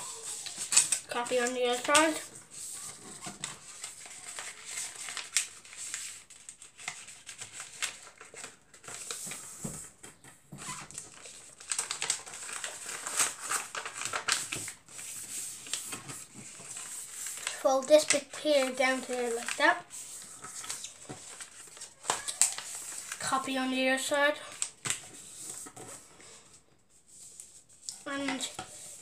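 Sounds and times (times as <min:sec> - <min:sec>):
paper rustling as it is folded: 0:00.0 - 0:29.0.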